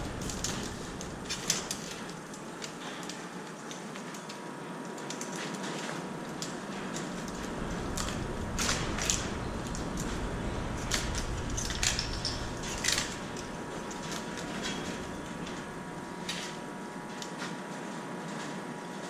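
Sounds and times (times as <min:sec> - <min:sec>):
wire scraping and crinkling: 0:00.0 - 0:19.0.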